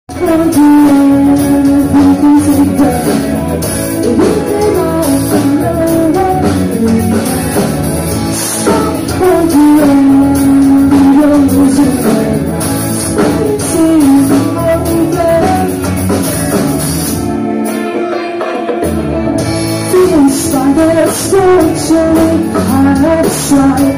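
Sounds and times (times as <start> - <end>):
lead vocal singing: 0.1 - 17.0, 19.8 - 23.9
drums: 0.1 - 23.9
electric guitars: 0.1 - 23.9.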